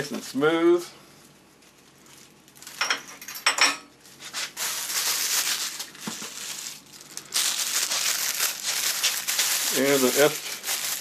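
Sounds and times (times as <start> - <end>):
plastic bag rustling: 1.1 - 3.3, 3.9 - 11.0.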